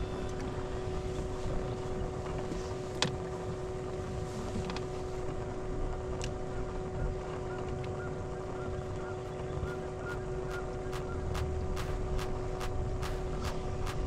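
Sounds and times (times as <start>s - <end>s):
wind buffeting on microphone: 0.0s - 14.0s.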